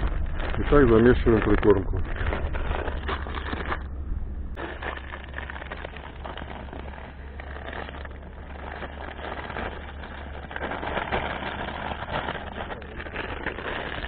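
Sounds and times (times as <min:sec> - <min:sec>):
gritty crackly rustling: 0:00.0 - 0:14.0
steady low rumble: 0:00.0 - 0:14.0.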